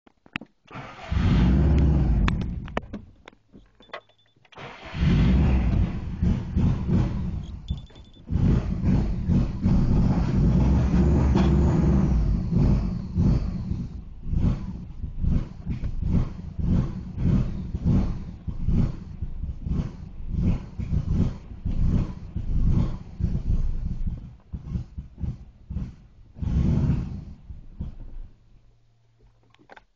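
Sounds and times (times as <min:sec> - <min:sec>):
car engine running unevenly: 0:04.6 - 0:29.7.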